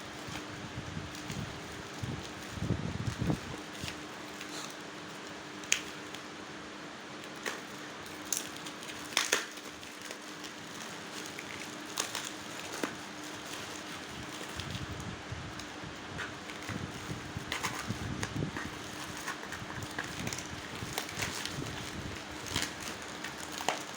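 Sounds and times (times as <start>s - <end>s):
packaging clicks and crackles: 0.0s - 23.9s.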